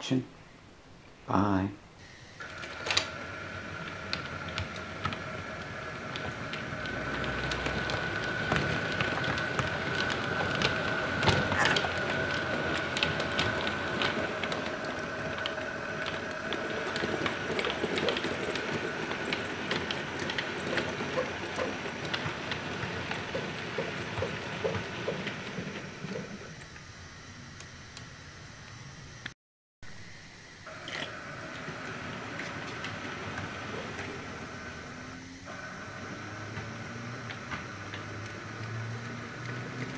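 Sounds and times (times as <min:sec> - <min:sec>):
model train motor whine: 0:02.0 - 0:29.3, 0:29.9 - 0:39.9
wheels clicking over rail joints: 0:02.4 - 0:26.7, 0:30.7 - 0:39.9.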